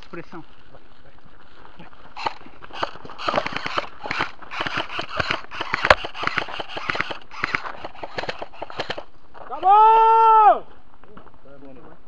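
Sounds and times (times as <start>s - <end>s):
footsteps crunching dry leaves: 0.0s - 10.0s.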